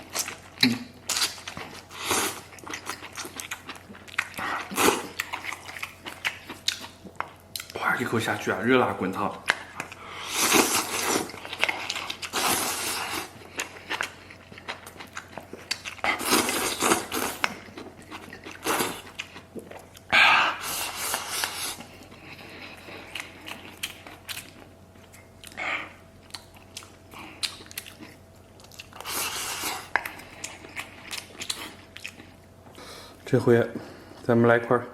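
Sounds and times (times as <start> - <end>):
person biting and chewing: 0.0 - 7.8, 9.4 - 32.4.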